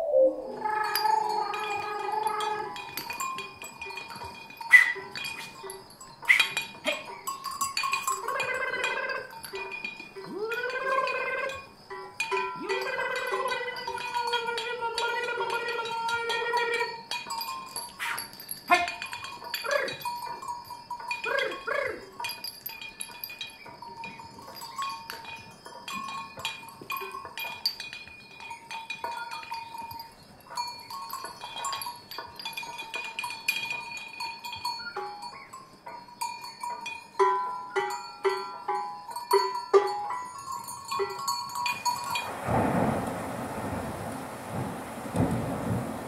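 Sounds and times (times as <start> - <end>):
flowerpots clinking together: 0.6 - 42.6.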